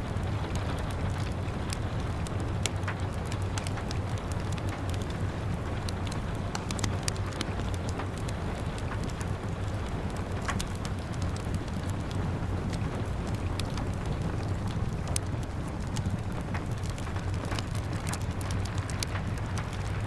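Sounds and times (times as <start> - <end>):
rain on a window: 0.0 - 20.0
wood fire crackling and popping: 0.0 - 20.0.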